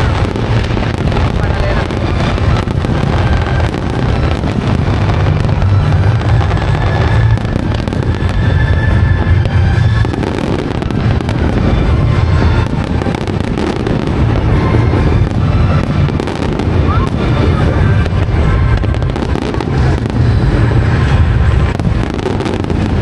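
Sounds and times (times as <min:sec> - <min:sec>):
fireworks crackling: 0:00.0 - 0:23.0.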